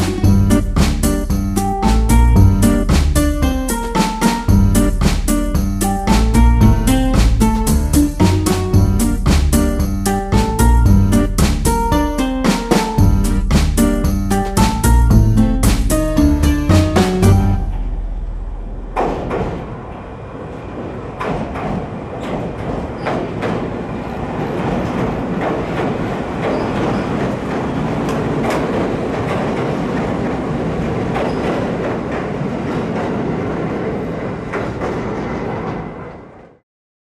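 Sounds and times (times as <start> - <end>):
train wheels rumbling on rail: 0.0 - 36.6.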